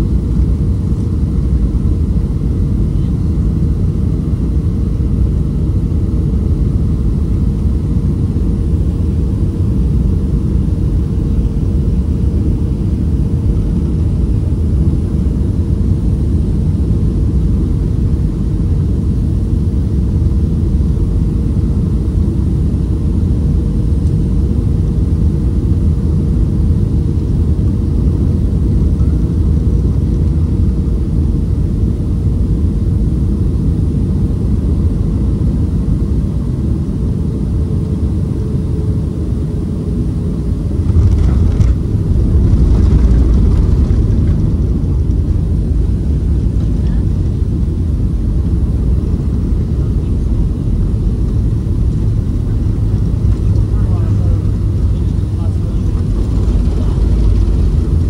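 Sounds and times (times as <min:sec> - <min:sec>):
jet engine and airflow rumble: 0:00.0 - 0:58.0
steady hum: 0:00.0 - 0:58.0.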